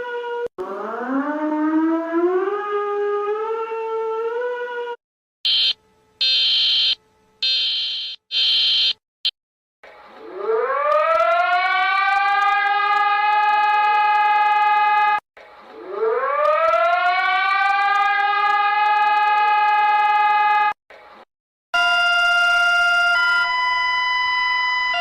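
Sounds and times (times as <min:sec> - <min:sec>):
emergency warning siren: 0:00.0 - 0:08.9, 0:10.2 - 0:20.8, 0:21.8 - 0:25.0.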